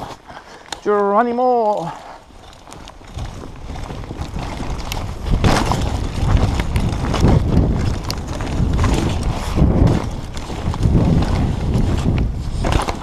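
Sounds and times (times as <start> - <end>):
bike knocking and rattling: 0.0 - 13.0
bike tyres on dirt: 0.0 - 13.0
wind buffeting microphone: 2.2 - 13.0.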